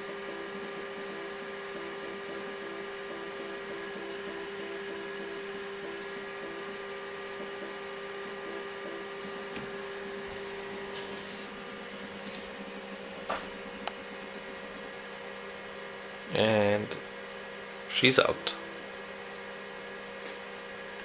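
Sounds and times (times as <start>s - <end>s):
computer humming whine: 0.0s - 21.0s.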